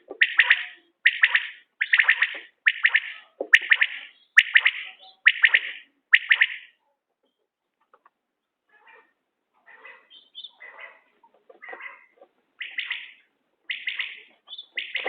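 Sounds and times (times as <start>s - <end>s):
quail calling: 0.0s - 6.8s, 8.7s - 15.0s.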